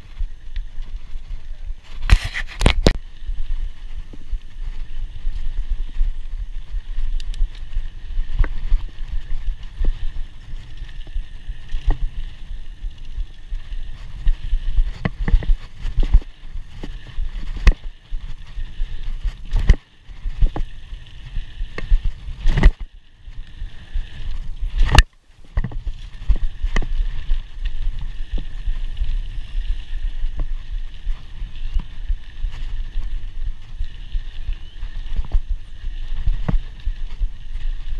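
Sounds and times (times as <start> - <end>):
wind on microphone: 0.0 - 37.9.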